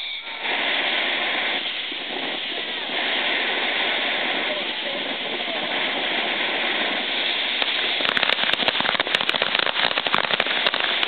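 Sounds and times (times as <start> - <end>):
firework hissing: 0.0 - 11.0
crackling pops: 0.4 - 11.0.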